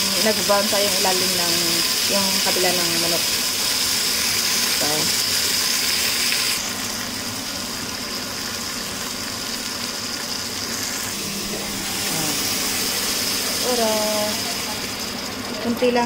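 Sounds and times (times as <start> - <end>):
chicken and onion sizzling in a pot: 0.0 - 16.0.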